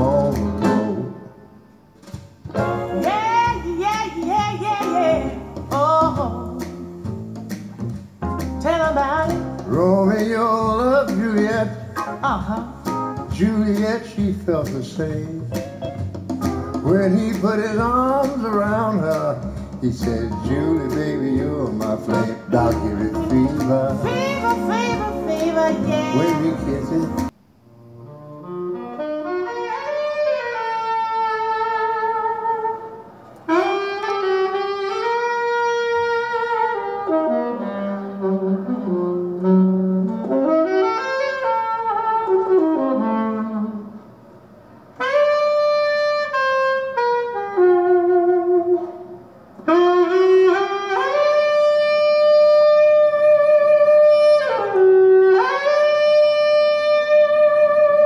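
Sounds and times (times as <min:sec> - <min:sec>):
jazz saxophone melody through speakers: 0:00.0 - 0:58.0.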